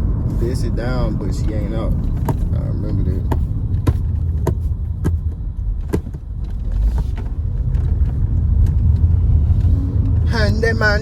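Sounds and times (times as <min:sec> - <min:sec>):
car running rumble: 0:00.0 - 0:11.0.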